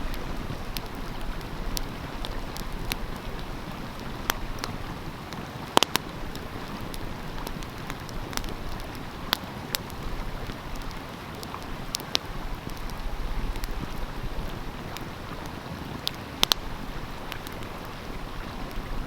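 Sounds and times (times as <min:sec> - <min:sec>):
wood fire crackling and popping: 0:00.0 - 0:18.9
flowing stream rushing: 0:00.0 - 0:19.0.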